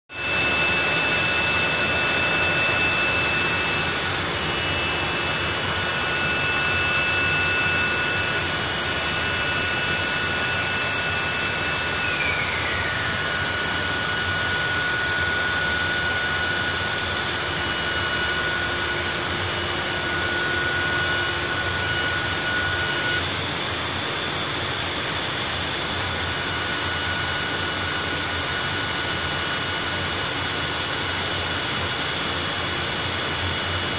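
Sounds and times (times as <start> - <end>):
high machine whines: 0.1 - 33.9.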